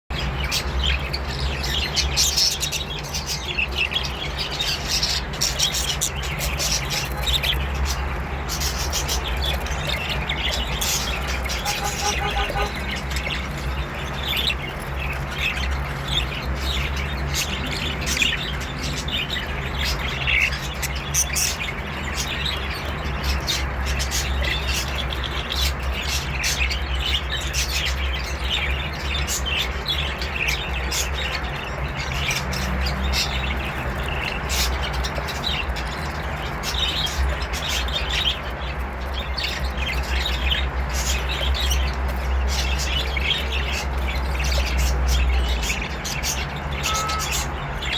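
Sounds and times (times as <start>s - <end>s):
budgerigars chattering: 0.1s - 47.9s.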